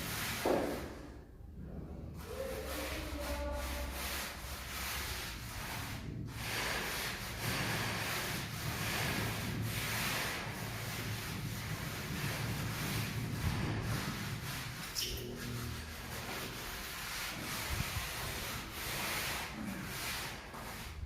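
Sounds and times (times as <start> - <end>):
tool scraping mortar floor: 0.0 - 1.1, 2.1 - 21.0.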